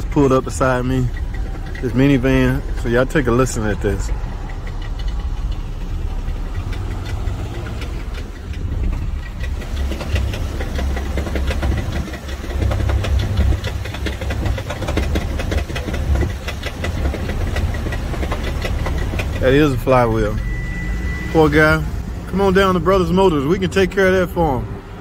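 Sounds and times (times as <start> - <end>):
engine idling rumble: 0.0 - 25.0
engine knocking: 0.0 - 25.0.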